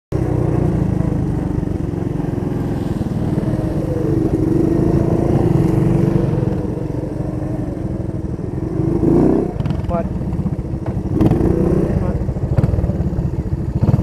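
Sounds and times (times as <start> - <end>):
dirt bike engine running: 0.1 - 14.0.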